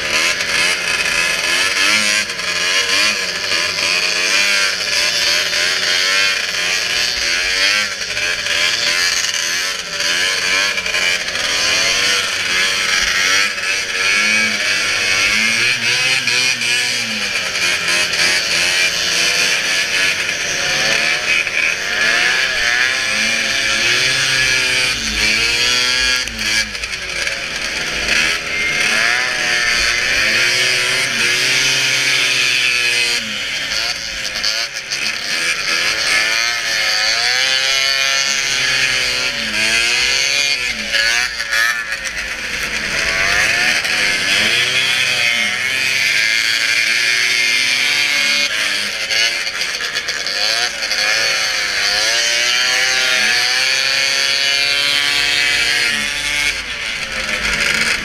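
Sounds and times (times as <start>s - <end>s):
snowmobile engines revving: 0.0s - 58.0s.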